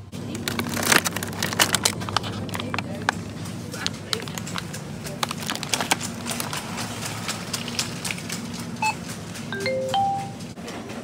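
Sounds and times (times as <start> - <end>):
shopping trolley rattling: 0.2 - 11.0.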